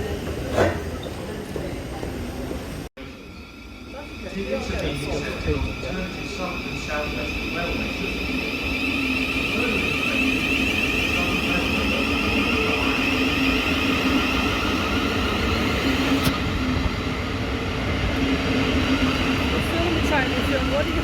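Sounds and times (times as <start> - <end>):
electric train rumbling and whining: 0.0 - 21.0.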